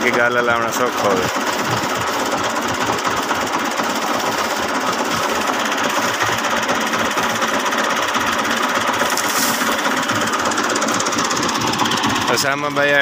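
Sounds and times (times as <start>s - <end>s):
thresher clattering: 0.0s - 12.7s
diesel tractor engine under load: 0.0s - 13.0s.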